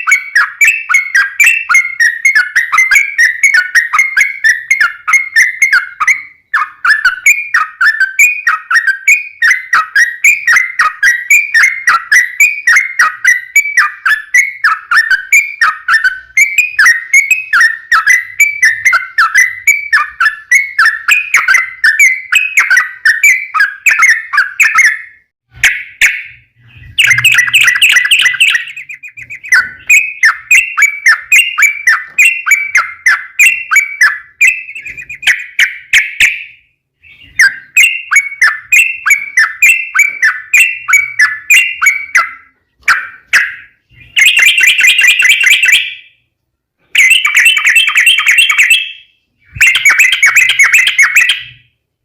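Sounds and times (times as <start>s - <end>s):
bird singing chattering song: 0.0s - 46.2s, 46.9s - 51.7s.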